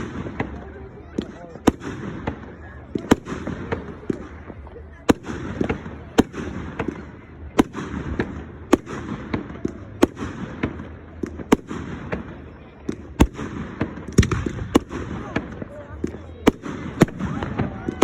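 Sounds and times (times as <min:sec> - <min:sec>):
fireworks bangs: 0:00.0 - 0:18.0
fireworks crackling and rumble: 0:00.0 - 0:18.0.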